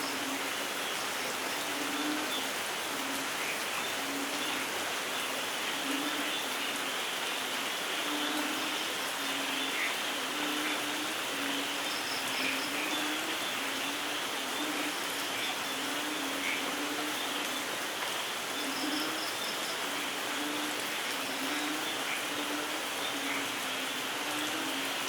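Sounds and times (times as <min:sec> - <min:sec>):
light rain falling: 0:00.0 - 0:25.0.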